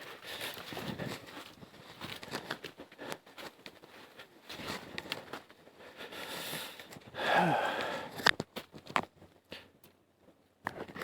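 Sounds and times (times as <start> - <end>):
twigs cracking and rustling: 0.0 - 5.7, 7.7 - 11.0.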